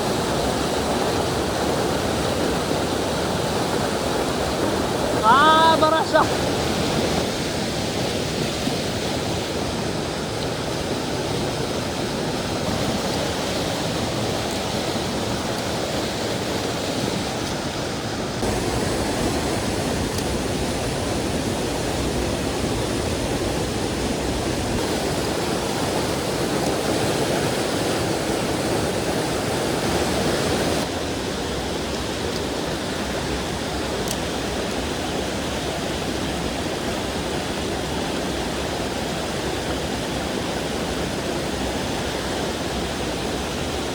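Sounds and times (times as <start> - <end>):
stream water rushing over rocks: 0.0 - 43.9.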